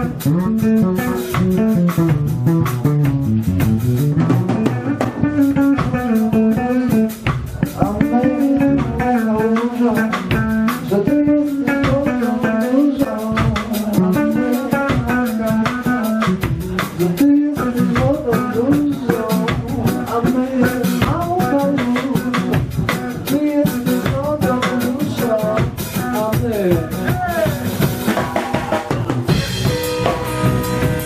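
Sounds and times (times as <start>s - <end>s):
drum kit: 0.0s - 31.0s
electric guitar melody: 0.0s - 31.0s.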